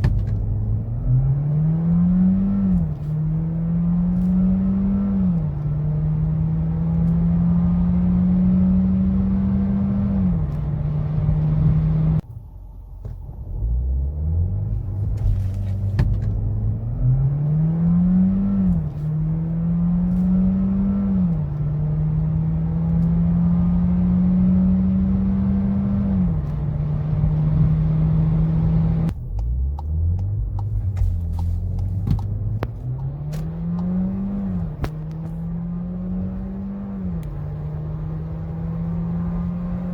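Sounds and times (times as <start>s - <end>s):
car engine accelerating hard: 0.0s - 12.2s, 13.4s - 39.9s.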